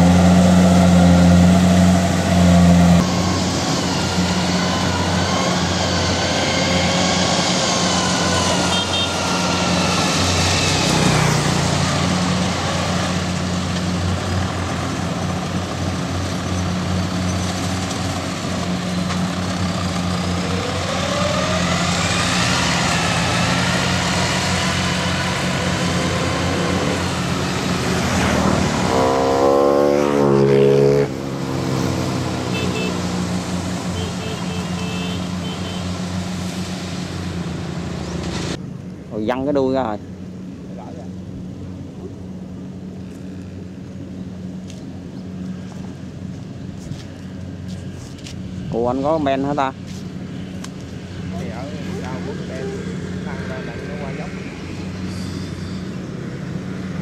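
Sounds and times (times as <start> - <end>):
diesel engine running: 0.0 - 39.3, 40.0 - 57.0.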